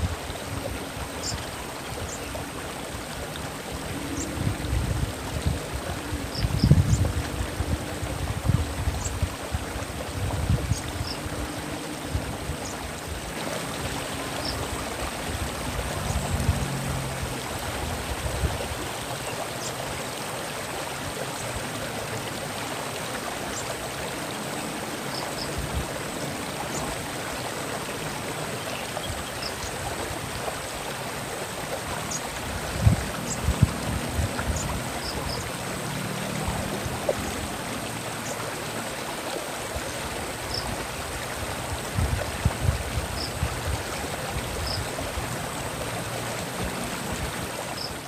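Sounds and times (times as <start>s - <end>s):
stream water flowing: 0.0s - 48.0s.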